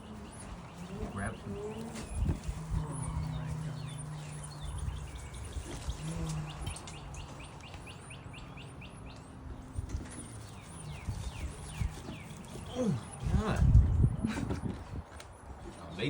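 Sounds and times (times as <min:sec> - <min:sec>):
small birds chirping fast: 0:00.0 - 0:16.0.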